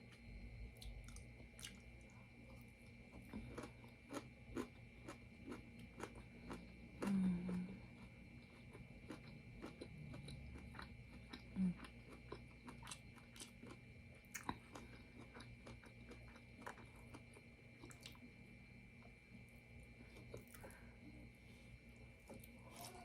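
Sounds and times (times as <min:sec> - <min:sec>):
person chewing: 0:00.8 - 0:18.2, 0:20.1 - 0:20.8, 0:22.2 - 0:23.0.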